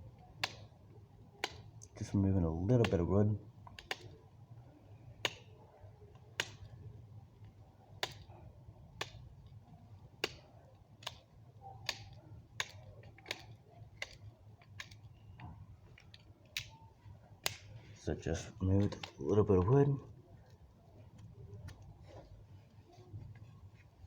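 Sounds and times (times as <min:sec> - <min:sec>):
knife shaving wood clicks: 0:00.0 - 0:22.3.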